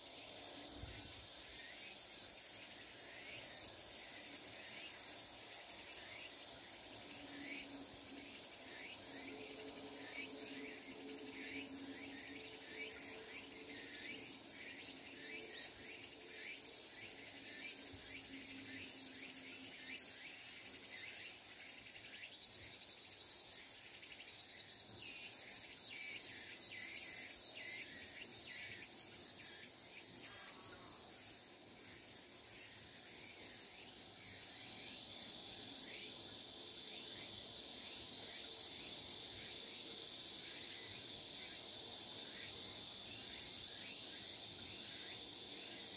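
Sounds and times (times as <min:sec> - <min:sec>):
crickets chirping: 0:00.0 - 0:45.9
high-pitched insect buzz: 0:00.0 - 0:45.9.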